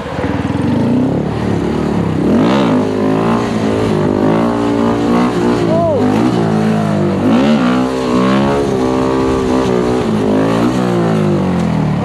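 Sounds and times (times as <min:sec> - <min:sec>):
minibike engine revving: 0:00.0 - 0:12.0.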